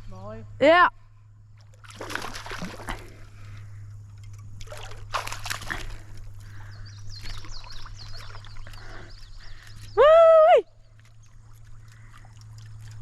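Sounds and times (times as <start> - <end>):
water splashing and sloshing: 1.5 - 13.0.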